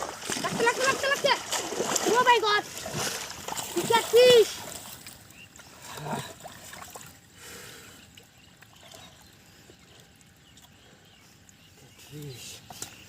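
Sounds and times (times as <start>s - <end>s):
shallow water sloshing: 0.0s - 11.7s
soft water splashes: 0.0s - 13.0s.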